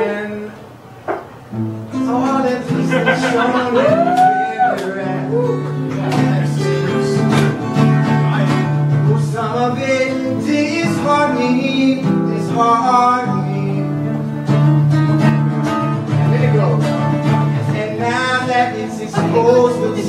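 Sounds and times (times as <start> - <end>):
man singing: 0.0 - 0.7, 1.9 - 14.6, 15.9 - 20.0
guitar chords: 1.1 - 20.0.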